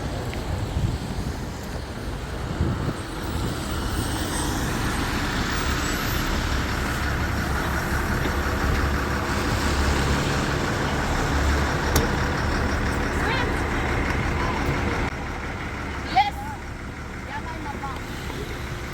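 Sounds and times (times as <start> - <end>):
rushing outdoor noise: 0.0 - 18.9.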